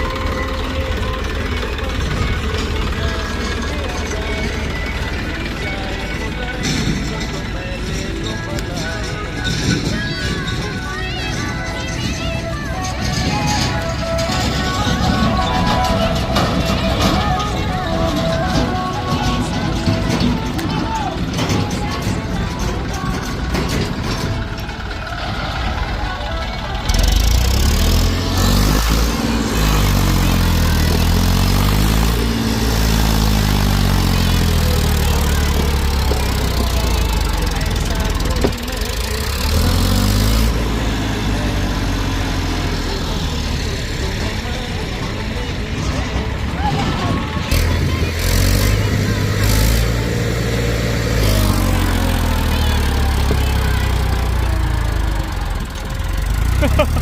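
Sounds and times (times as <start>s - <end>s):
heavy vehicle engine revving: 0.0s - 57.0s.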